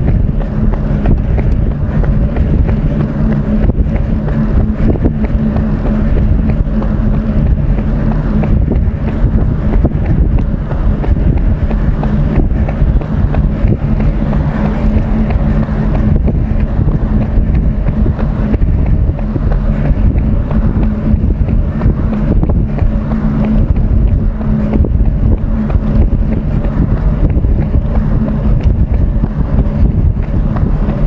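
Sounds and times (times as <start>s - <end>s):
steady low hum: 0.0s - 31.0s
wind buffeting microphone: 0.0s - 31.0s.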